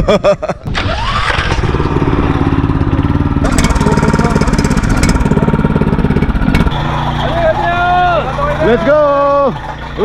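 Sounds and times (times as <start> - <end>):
small petrol engine chugging: 0.8 - 10.0.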